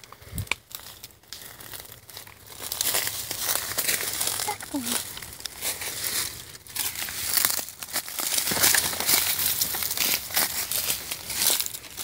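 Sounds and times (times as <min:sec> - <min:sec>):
footsteps through dry leaves: 0:00.6 - 0:12.0.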